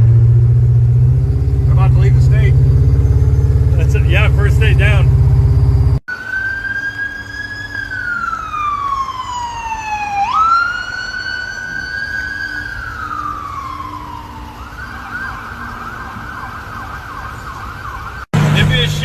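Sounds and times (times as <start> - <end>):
emergency siren wailing: 0.0 - 19.0
low road and engine rumble: 0.0 - 19.0.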